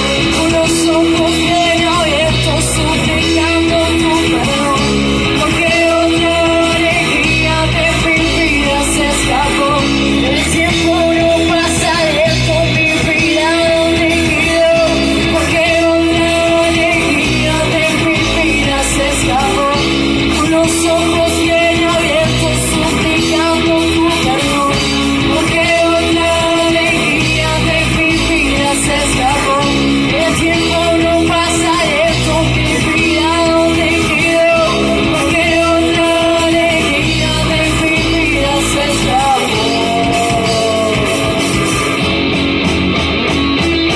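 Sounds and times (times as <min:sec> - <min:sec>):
rock music with singing: 0:00.0 - 0:43.9.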